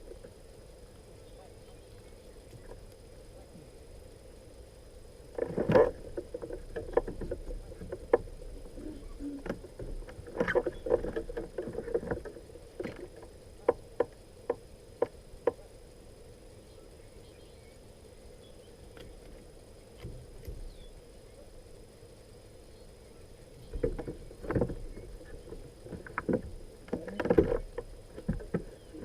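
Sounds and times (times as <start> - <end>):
faint steady background noise: 0.0 - 29.0.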